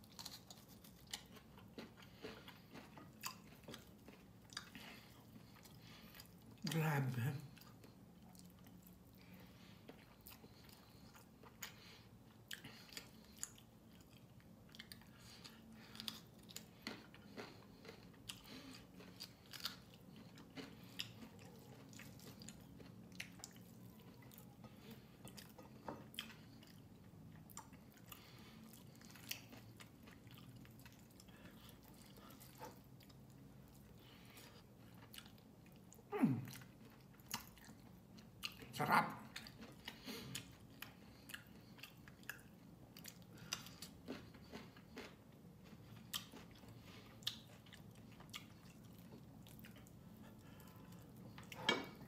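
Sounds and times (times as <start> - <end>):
chewing and mouth clicks: 0.0 - 52.0
faint low hum: 0.0 - 52.0.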